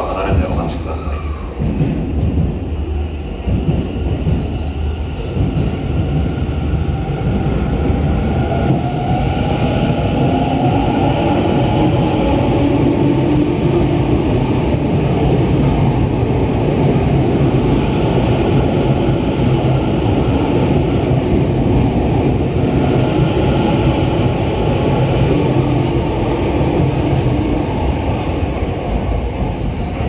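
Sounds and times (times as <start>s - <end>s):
subway train passing: 0.0s - 30.0s.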